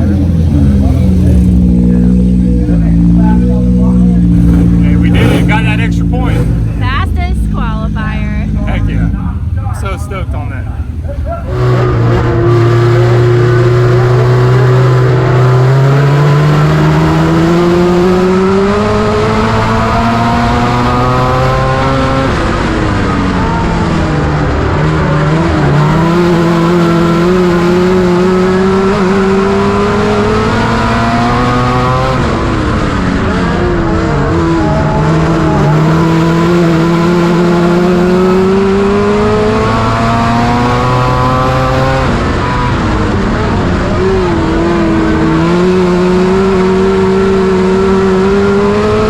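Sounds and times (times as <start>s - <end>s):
race car engine: 0.0s - 49.0s.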